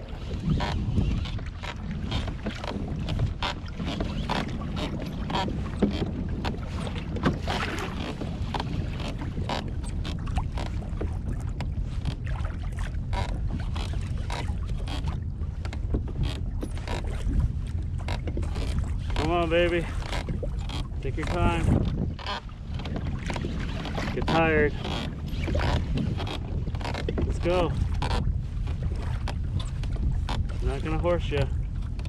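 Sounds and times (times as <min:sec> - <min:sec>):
water slapping against kayak hull: 0:00.0 - 0:32.0
wind buffeting microphone: 0:00.0 - 0:32.0.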